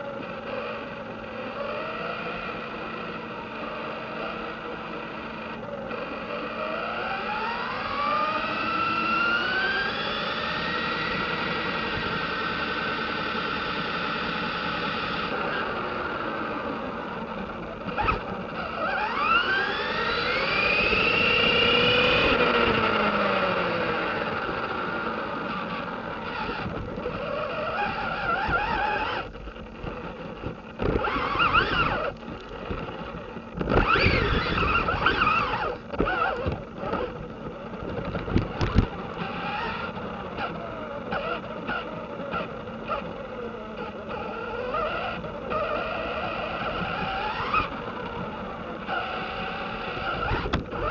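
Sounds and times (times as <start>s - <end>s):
electric motor whining: 0.0s - 50.9s.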